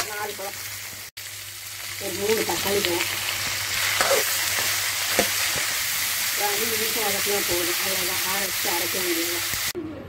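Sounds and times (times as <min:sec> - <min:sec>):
vegetables sizzling in hot oil: 0:00.0 - 0:09.8.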